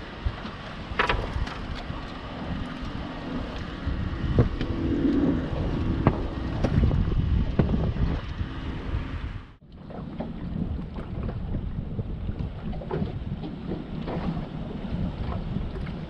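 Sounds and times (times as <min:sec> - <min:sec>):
knocks and clatter in boat: 0:00.0 - 0:08.8, 0:09.7 - 0:16.0
wind buffeting microphone: 0:00.0 - 0:16.0.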